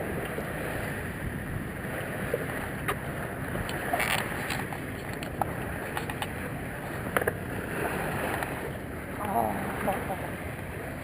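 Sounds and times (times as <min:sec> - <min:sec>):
wind and water rushing: 0:00.0 - 0:11.0.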